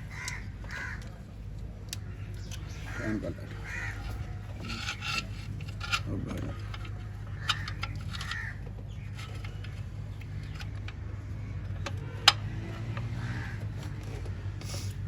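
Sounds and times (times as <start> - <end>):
clicks and knocks of car work: 1.9 - 15.0.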